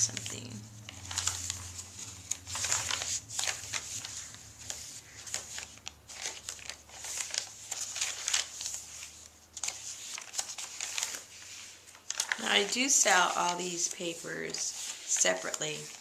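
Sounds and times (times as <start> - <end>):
paper scraps crinkling: 0.0 - 16.0.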